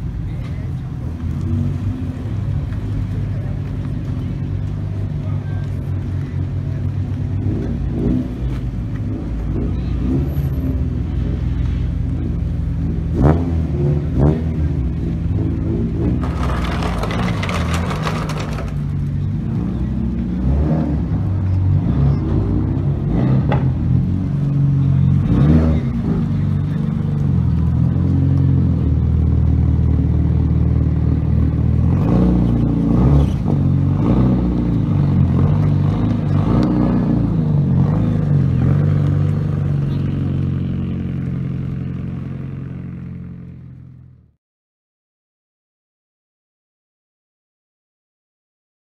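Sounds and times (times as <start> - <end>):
sports car engines revving: 0.0 - 43.9.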